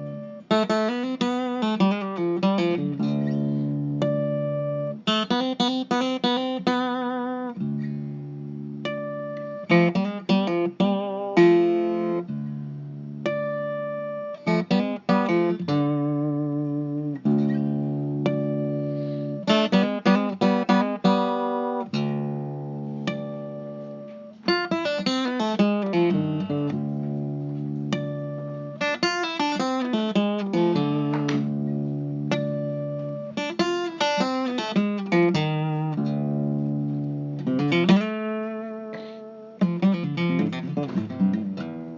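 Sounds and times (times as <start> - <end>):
solo guitar music: 0.0 - 41.9.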